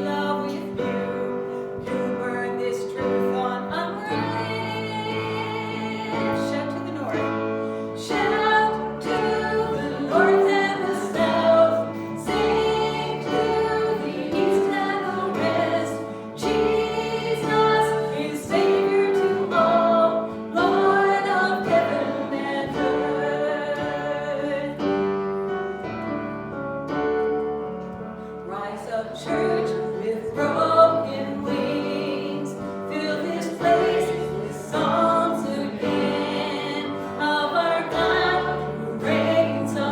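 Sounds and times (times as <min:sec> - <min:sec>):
voices singing a worship song: 0:00.0 - 0:25.8, 0:28.4 - 0:39.9
instrumental accompaniment: 0:00.0 - 0:39.9.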